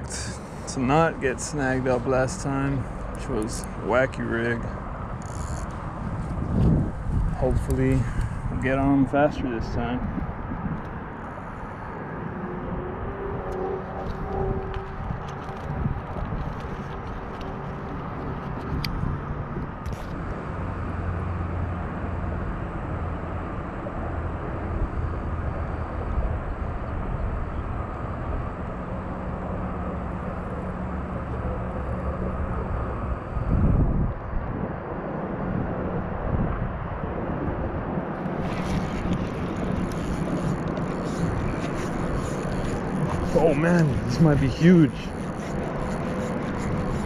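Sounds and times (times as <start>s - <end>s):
distant engines droning: 0.0s - 47.0s.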